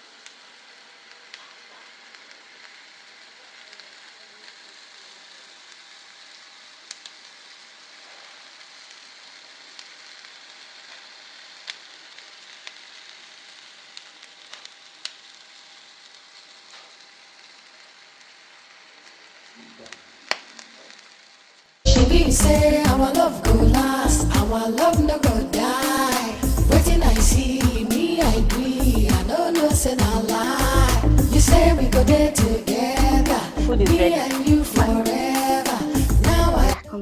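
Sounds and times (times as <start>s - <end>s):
food sizzling with pops: 0.0s - 37.0s.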